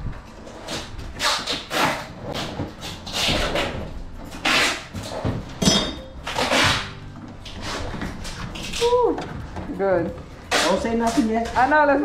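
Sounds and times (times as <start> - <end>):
rubber flooring rasping tears: 0.5 - 9.7, 10.4 - 11.3.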